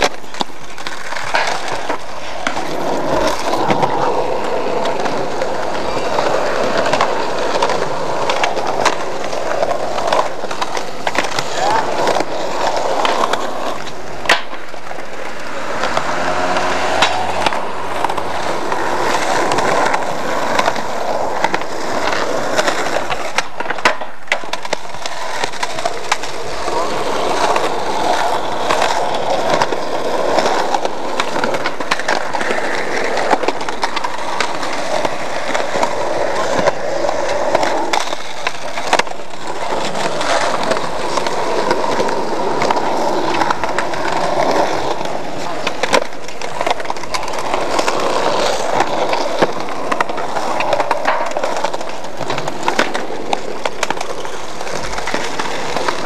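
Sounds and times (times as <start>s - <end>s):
skateboard wheels rolling on concrete: 0.0s - 56.0s
skateboards clacking: 0.0s - 56.0s.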